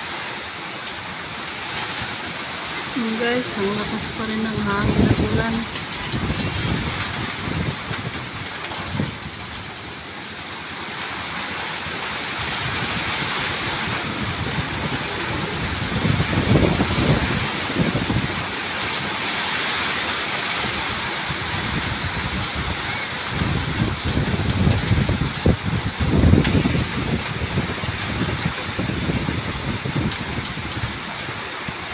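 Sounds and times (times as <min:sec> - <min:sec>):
heavy rain pouring: 0:00.0 - 0:31.9
strong wind buffeting microphone: 0:02.9 - 0:31.9.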